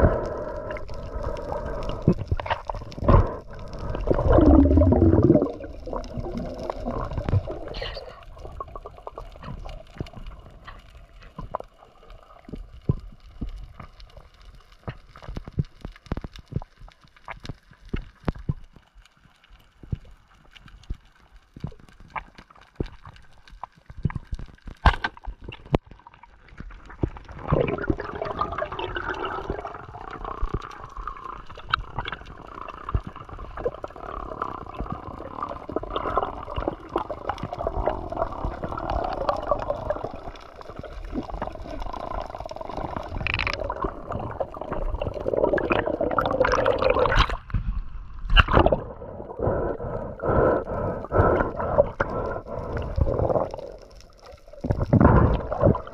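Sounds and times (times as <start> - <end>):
water sloshing and gurgling: 0.0 - 18.9, 19.6 - 55.9.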